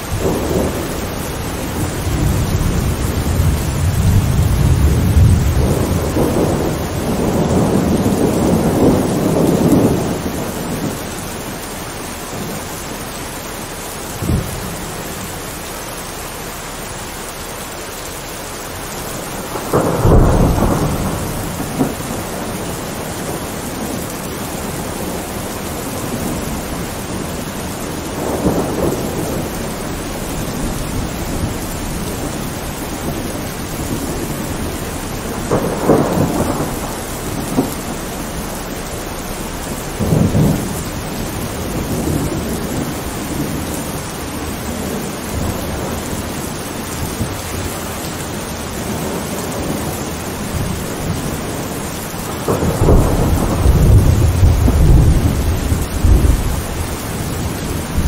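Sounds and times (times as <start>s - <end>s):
thunder cracks and rumbles: 0.0s - 11.6s, 14.2s - 15.2s, 19.0s - 58.0s
heavy rain falling: 0.0s - 58.0s.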